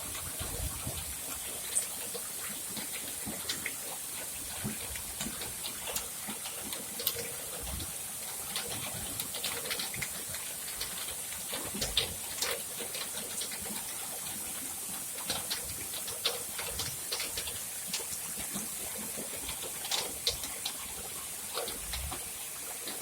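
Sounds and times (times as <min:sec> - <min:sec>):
rainwater gushing from a pipe: 0:00.0 - 0:23.0
water dripping: 0:00.0 - 0:23.0.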